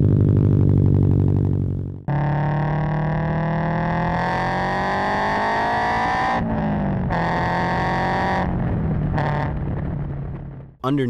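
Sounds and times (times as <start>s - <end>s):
car exhaust accelerating: 0.0s - 10.8s.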